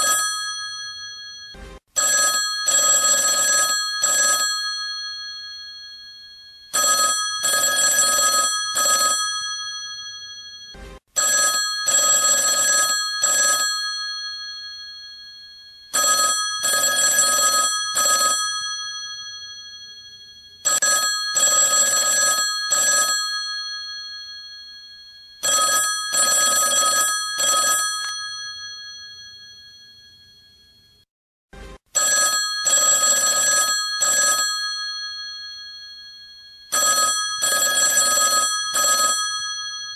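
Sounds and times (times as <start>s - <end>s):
telephone bell ringing: 0.0s - 31.0s, 32.0s - 39.9s.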